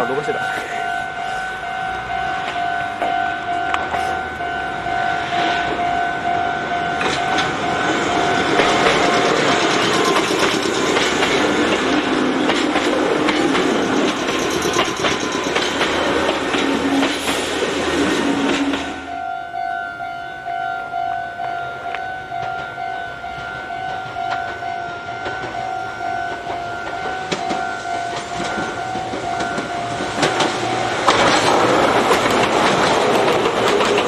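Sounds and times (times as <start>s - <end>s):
level-crossing warning bell: 0.0s - 34.0s
train wheels clacking on rail joints: 1.8s - 19.2s, 21.9s - 34.0s.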